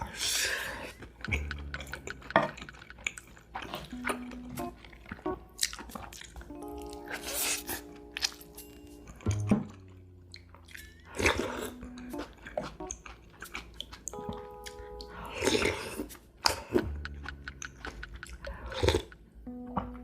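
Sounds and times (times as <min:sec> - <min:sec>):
biting and chewing food: 0:00.0 - 0:20.0.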